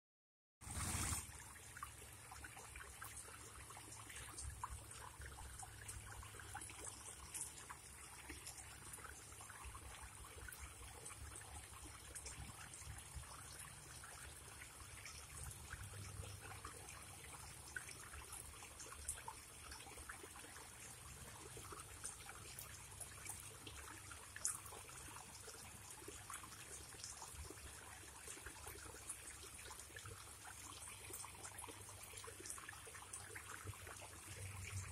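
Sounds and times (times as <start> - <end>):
pond water trickling: 0.6 - 34.9
water drips and splashes: 0.6 - 34.9.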